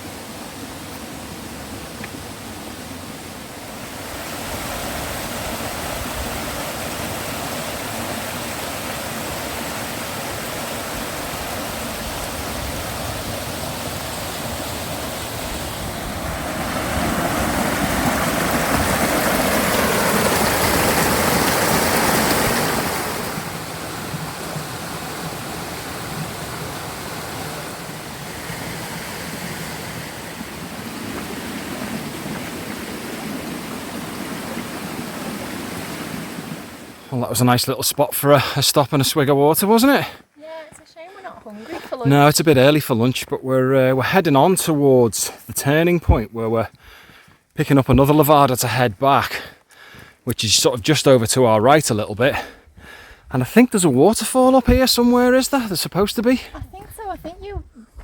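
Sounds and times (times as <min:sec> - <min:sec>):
stream and small waterfall rushing: 0:00.0 - 0:57.6.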